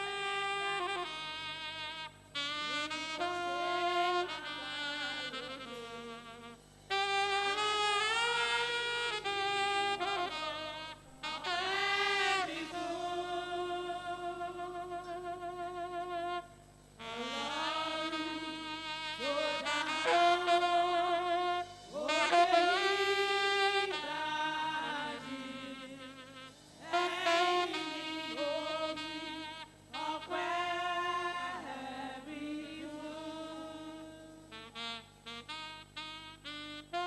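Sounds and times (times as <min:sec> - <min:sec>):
saxophone slow melody: 0:00.0 - 0:37.0.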